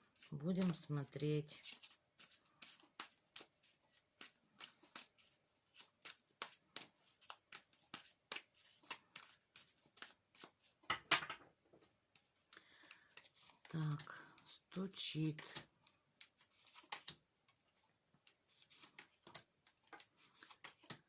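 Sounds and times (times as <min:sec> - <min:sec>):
cards being shuffled: 0:00.0 - 0:11.3, 0:12.1 - 0:21.0.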